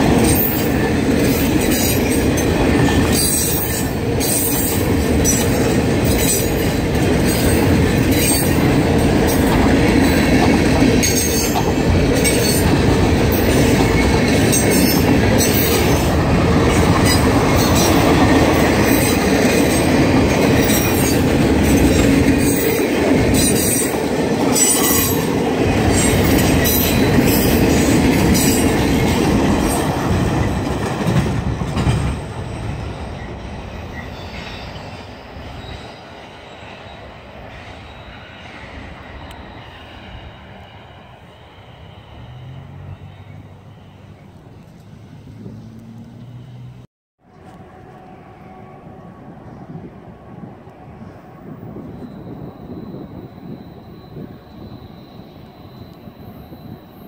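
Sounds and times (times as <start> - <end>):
train wheels on rails: 0.0 - 48.2.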